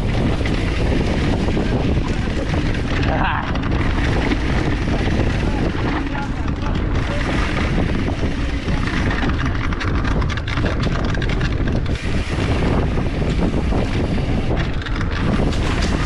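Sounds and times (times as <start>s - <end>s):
bike rattling and clicking: 0.0s - 16.0s
wind buffeting microphone: 0.0s - 16.0s.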